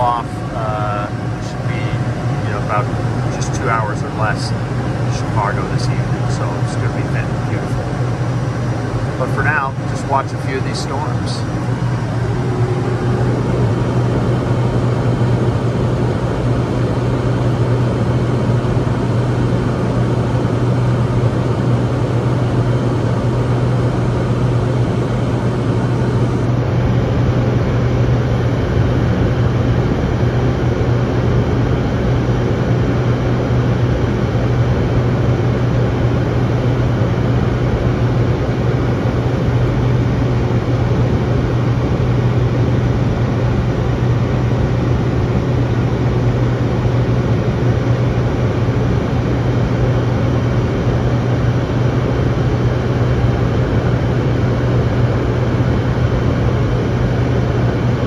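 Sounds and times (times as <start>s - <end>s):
jet cabin noise: 0.0s - 58.0s
low hum of jet engine: 0.0s - 58.0s.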